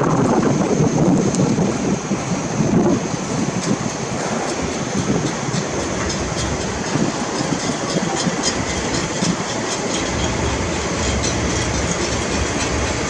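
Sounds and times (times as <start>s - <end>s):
train rumble: 0.0s - 13.0s
train wheels clicking on rails: 0.0s - 13.0s.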